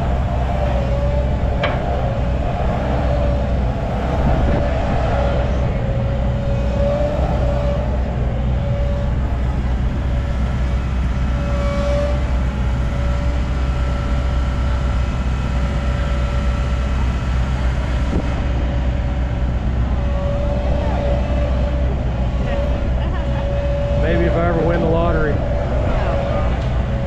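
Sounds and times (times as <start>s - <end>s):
excavator engine drone: 0.0s - 27.0s
hydraulic whine: 0.0s - 27.0s.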